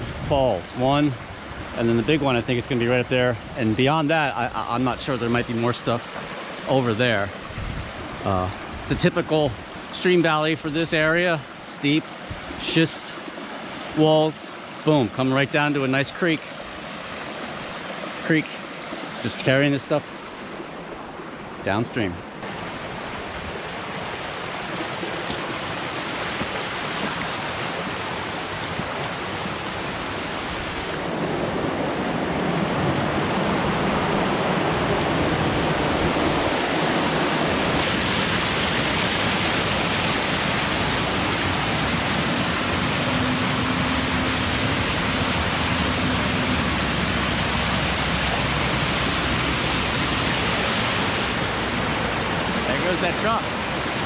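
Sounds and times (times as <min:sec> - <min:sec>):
water rushing down creek: 0:00.0 - 0:54.0.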